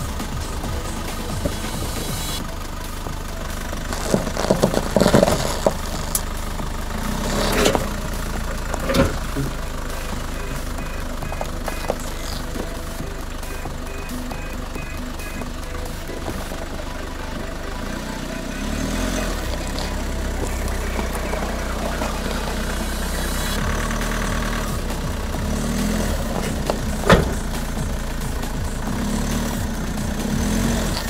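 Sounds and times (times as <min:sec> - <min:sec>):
diesel engine pulling uphill: 0:00.0 - 0:31.0.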